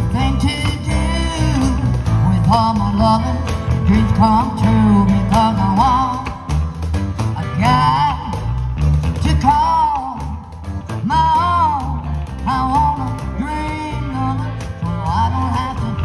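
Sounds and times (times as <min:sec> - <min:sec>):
electric bass and guitars: 0:00.0 - 0:16.0
live band playing country rock: 0:00.0 - 0:16.0.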